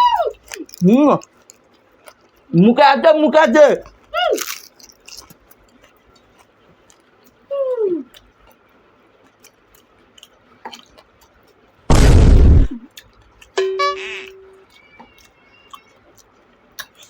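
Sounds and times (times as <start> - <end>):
crunching and chewing food: 0.0 - 2.7, 3.4 - 13.6, 14.5 - 17.0.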